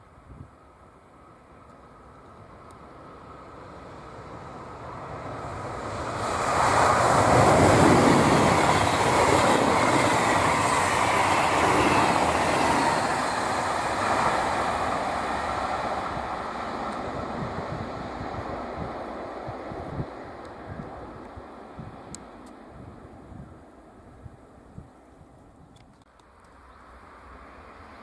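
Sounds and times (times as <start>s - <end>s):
passenger train passing at speed: 0.0s - 25.3s, 26.2s - 28.0s.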